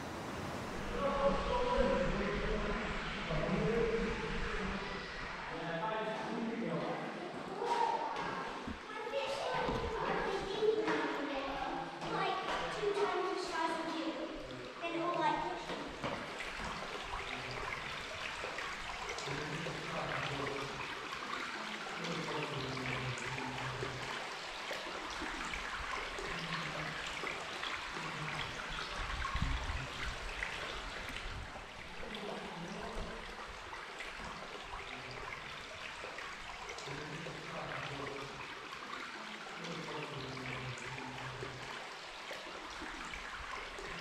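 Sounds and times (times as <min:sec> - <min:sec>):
water trickling over rock: 0:07.6 - 0:44.0.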